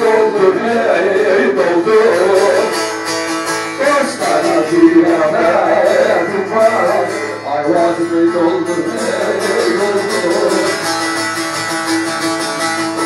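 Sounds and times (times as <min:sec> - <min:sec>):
man singing folk song: 0:00.0 - 0:13.0
plucked long-necked lute: 0:00.0 - 0:13.0.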